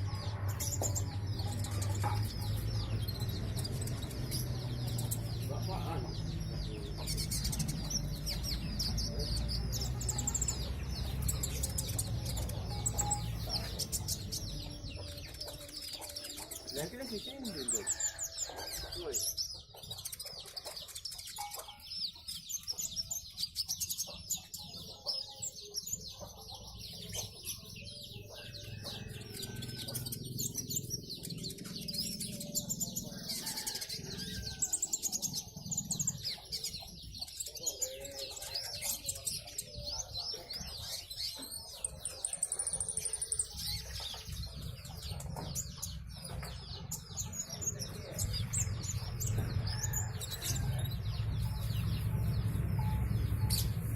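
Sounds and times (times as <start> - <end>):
bird chirping and trilling: 0.0 - 53.9
buzzy bird trill: 0.0 - 53.9.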